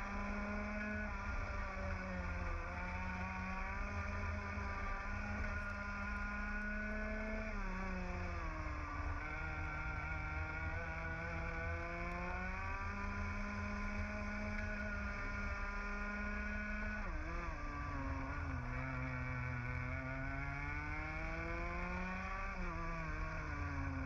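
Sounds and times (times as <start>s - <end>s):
kart engine racing: 0.0s - 24.0s.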